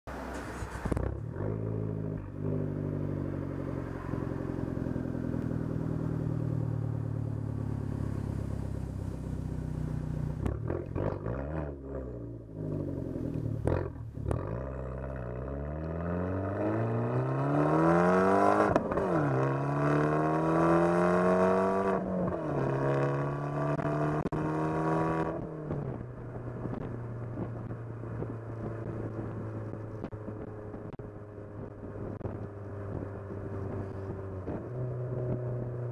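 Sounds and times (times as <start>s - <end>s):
car exhaust accelerating: 0.1s - 35.9s.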